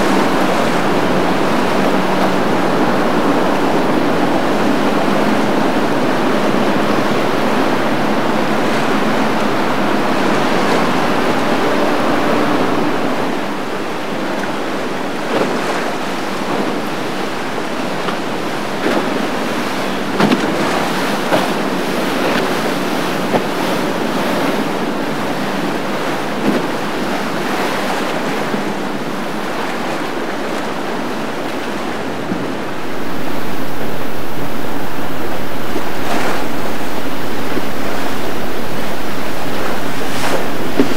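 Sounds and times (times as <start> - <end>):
outboard motor humming: 0.0 - 40.9
rushing churning water: 0.0 - 40.9.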